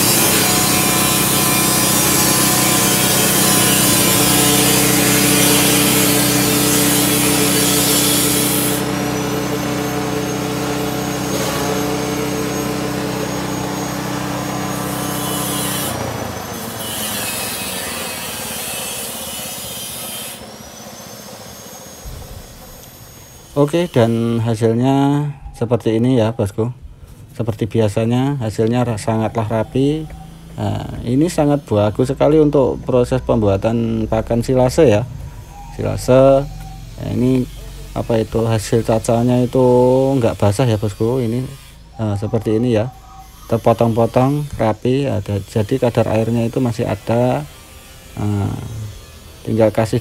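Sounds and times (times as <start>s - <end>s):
cutter spinning down: 0.0s - 24.5s, 28.6s - 50.0s
small engine running: 0.0s - 24.5s, 28.6s - 50.0s
grass chopper shredding: 0.0s - 24.8s, 27.9s - 50.0s.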